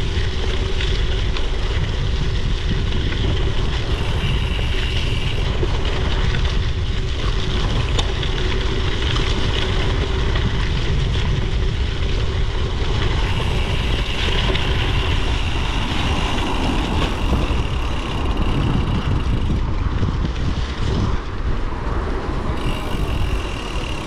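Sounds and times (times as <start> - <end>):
tyre and road noise: 0.0 - 24.0
wind buffeting microphone: 0.0 - 24.0.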